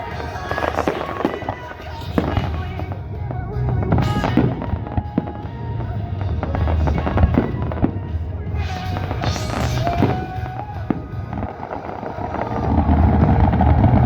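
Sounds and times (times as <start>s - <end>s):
fireworks bangs: 0.0s - 14.0s
music playing: 0.0s - 14.0s
low rumble: 1.5s - 14.0s.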